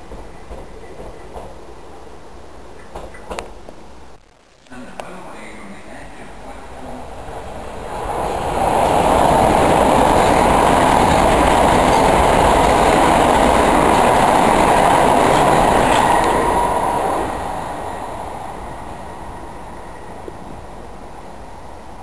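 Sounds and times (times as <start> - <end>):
train passing at speed: 0.0 - 2.3, 5.2 - 22.0.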